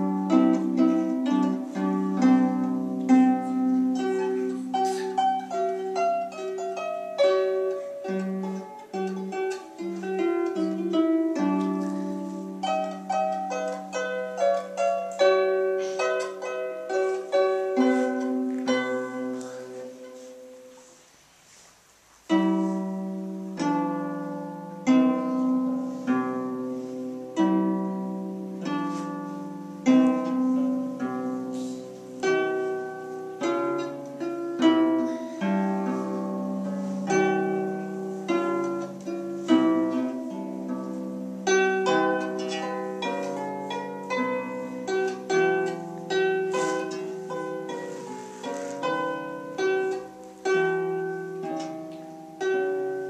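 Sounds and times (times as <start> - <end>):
harp plucked notes: 0.0 - 21.0, 22.2 - 53.0.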